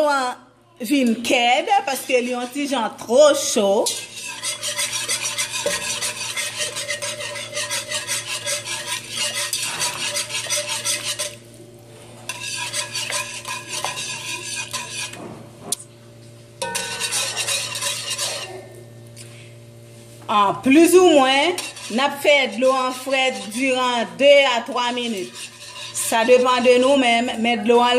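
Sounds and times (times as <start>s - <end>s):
whisk scraping a pot: 1.2s - 15.8s, 16.6s - 18.7s, 20.6s - 27.6s.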